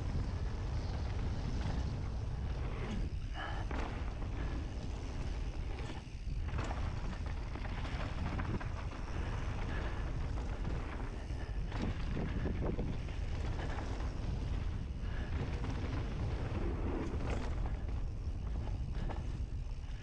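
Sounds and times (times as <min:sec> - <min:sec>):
bike rattling and knocking: 0:00.0 - 0:20.0
wind rushing over microphone: 0:00.0 - 0:20.0.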